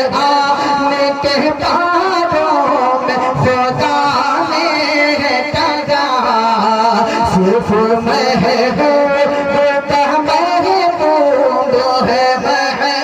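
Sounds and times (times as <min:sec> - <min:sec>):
man singing melismatic notes: 0:00.0 - 0:13.0.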